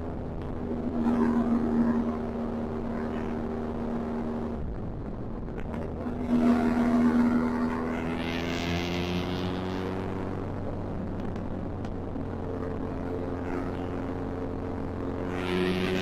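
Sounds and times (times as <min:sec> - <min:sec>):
motorcycle engine: 0:00.0 - 0:16.0.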